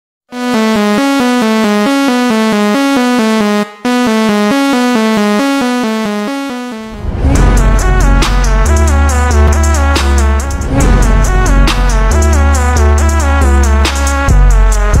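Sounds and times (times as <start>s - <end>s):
heavy bass: 0.3s - 15.0s
synthesizer repeating figure: 0.3s - 15.0s.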